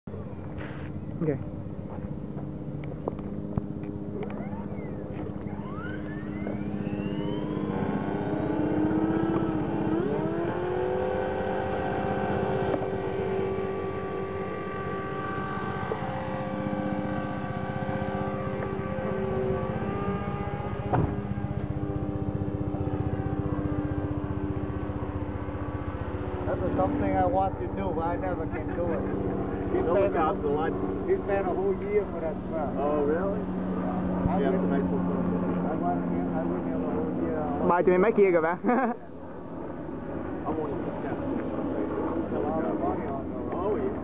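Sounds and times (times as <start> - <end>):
rc helicopter rotor whine: 0.2 - 44.0.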